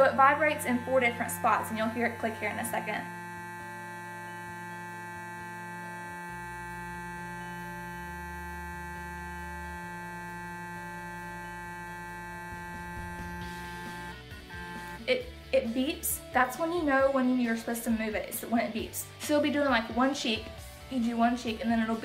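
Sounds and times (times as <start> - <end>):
facial brush electric buzz: 0.0 - 22.0.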